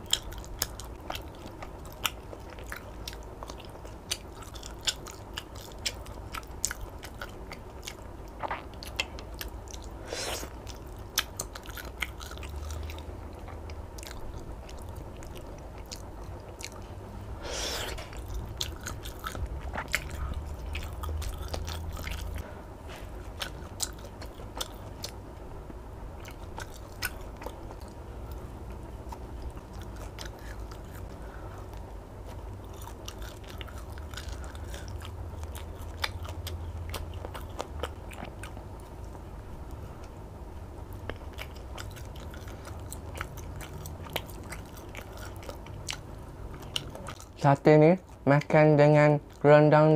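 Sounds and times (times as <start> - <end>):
person chewing soft food: 0.0 - 25.4, 26.1 - 47.4
steady low hum: 0.0 - 49.9.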